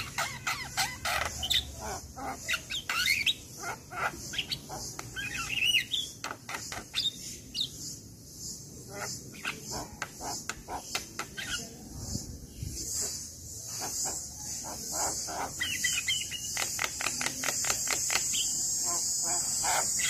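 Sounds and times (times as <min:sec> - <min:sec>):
bird chattering and whistling: 0:00.0 - 0:20.0.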